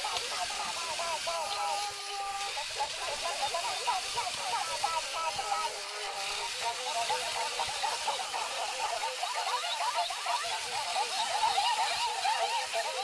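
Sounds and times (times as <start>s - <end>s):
toy voices squeaking: 0.0s - 13.0s.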